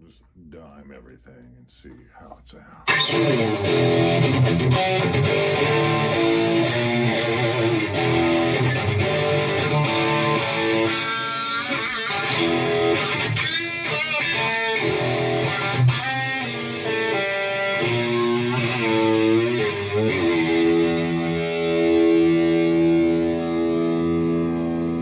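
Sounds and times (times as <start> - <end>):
driven electric guitar: 2.8 - 25.0.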